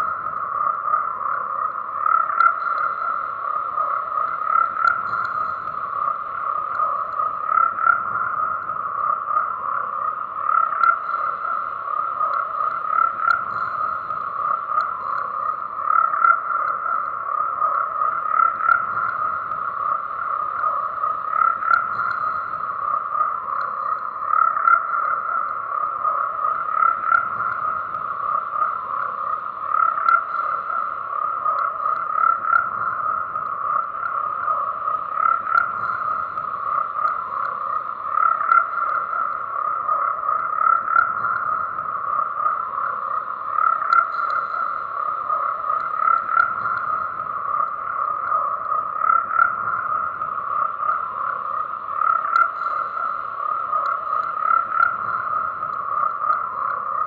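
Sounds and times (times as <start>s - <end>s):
frogs croaking in chorus: 0.0s - 57.0s.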